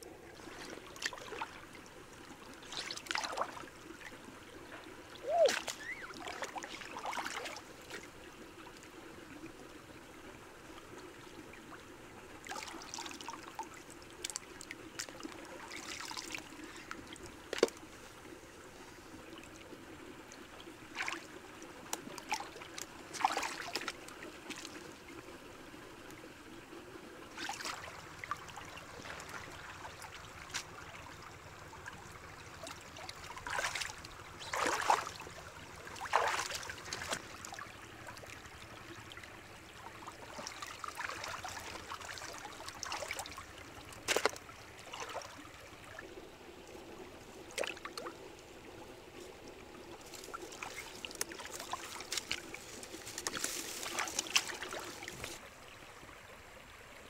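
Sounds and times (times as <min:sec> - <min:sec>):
stream trickling: 0:00.0 - 0:57.0
water splashing from wading: 0:00.2 - 0:08.2, 0:12.4 - 0:18.2, 0:20.4 - 0:25.1, 0:27.2 - 0:48.6, 0:49.8 - 0:55.5.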